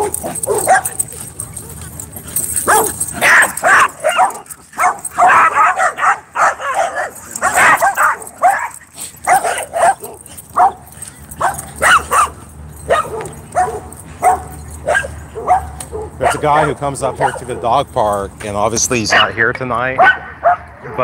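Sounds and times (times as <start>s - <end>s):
dog barking: 0.0s - 1.8s, 2.4s - 17.7s, 19.1s - 19.4s, 20.0s - 21.0s.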